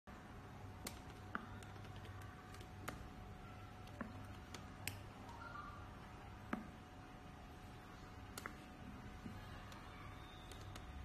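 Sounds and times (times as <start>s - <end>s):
faint steady hum: 0.1s - 11.0s.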